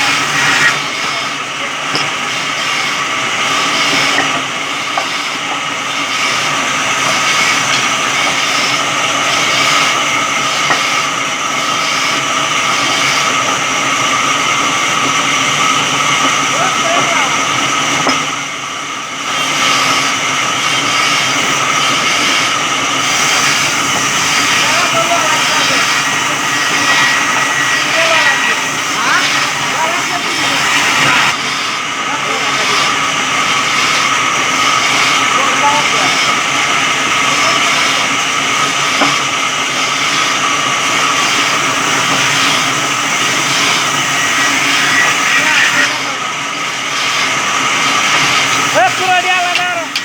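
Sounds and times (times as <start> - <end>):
electric saw whining hum: 0.0 - 50.0.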